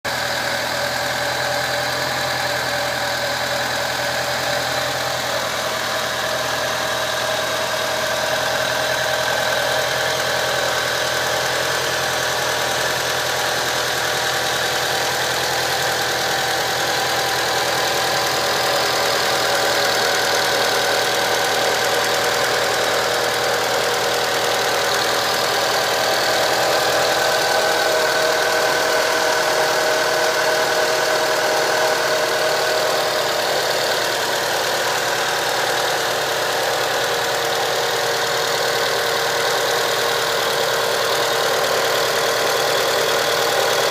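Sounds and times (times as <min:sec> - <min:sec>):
engine idling unevenly: 0:00.1 - 0:43.9.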